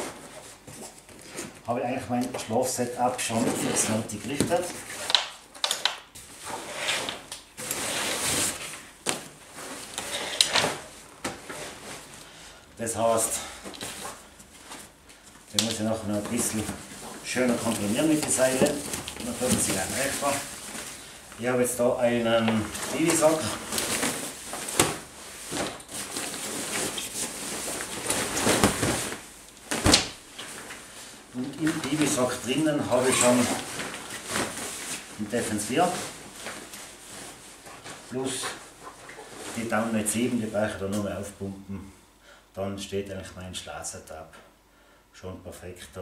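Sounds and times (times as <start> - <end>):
nylon fabric rustling: 0.0 - 40.9.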